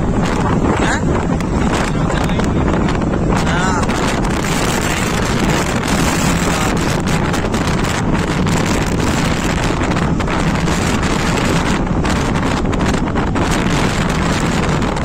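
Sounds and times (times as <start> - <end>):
motorcycle engine and tyres drone: 0.0 - 15.0
wind rushing over microphone: 0.0 - 15.0.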